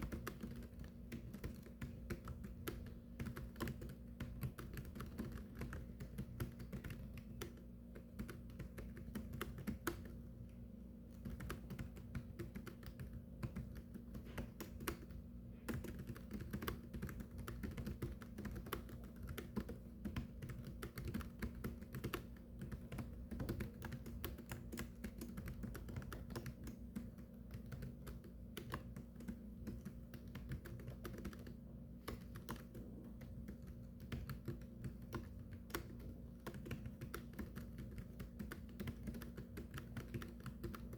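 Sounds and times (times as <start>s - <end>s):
typing on a keyboard: 0.0s - 10.2s, 11.1s - 40.9s.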